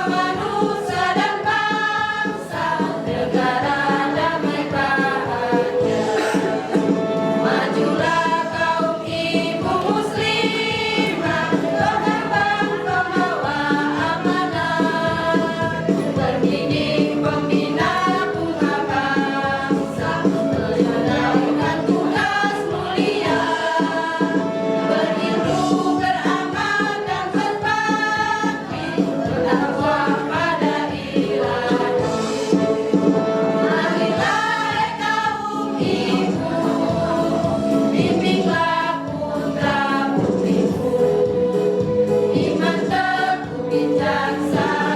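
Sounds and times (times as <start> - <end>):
instrumental accompaniment with beat: 0.0 - 44.9
women's choir singing: 0.0 - 44.9.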